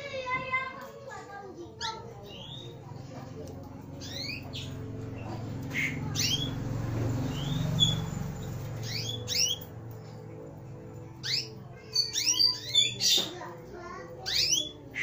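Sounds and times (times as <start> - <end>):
canaries chirping: 0.0 - 15.0
low background murmur: 0.0 - 15.0.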